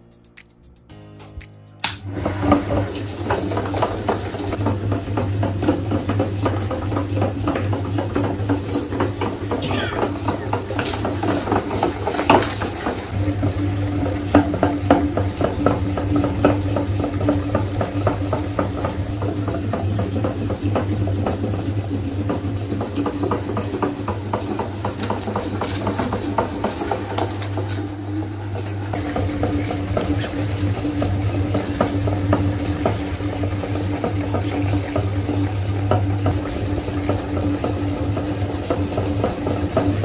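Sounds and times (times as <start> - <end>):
meat grinder humming: 1.8 - 40.0
sweets crunching in grinder: 2.0 - 40.0.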